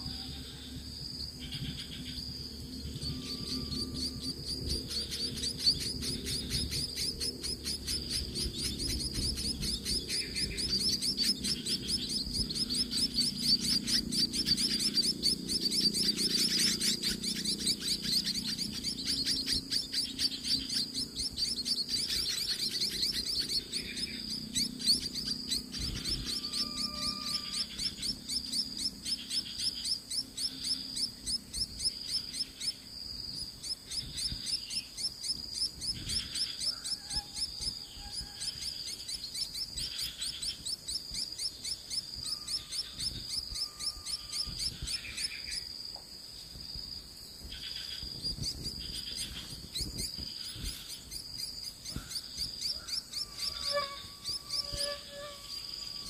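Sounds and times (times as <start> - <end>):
insect chirping: 0.0 - 56.0
soft irregular chirps: 0.0 - 56.0.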